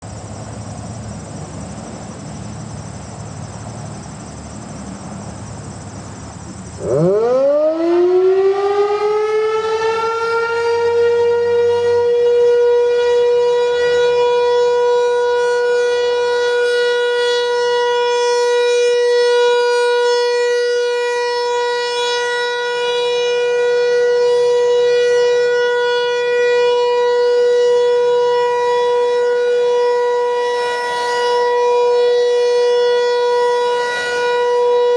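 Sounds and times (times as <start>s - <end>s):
outdoor warning siren wailing: 0.0s - 34.9s.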